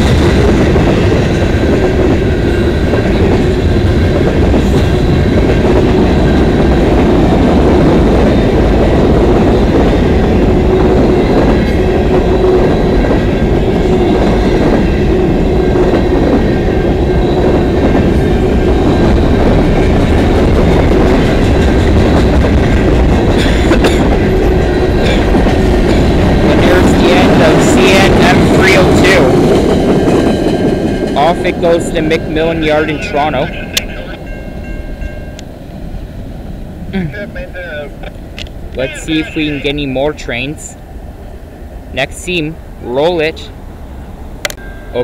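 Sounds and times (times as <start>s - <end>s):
steel wheels rumbling on rails: 0.0s - 45.0s.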